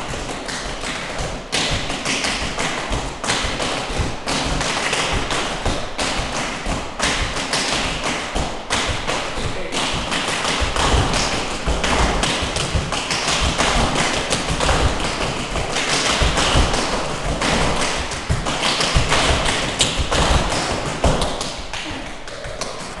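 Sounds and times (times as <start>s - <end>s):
tap shoes clicking on hard floor: 0.0s - 23.0s.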